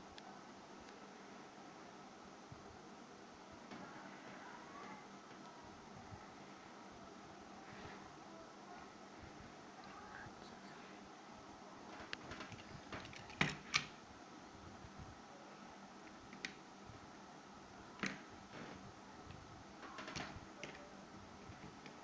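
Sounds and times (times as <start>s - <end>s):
faint room hiss: 0.0s - 22.0s.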